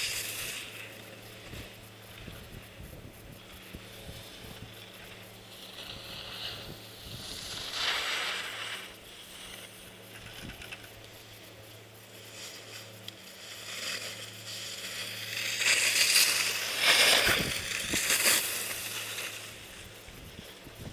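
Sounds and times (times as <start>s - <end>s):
skis scraping over snow: 0.0s - 20.9s
steady low hum: 0.0s - 20.9s.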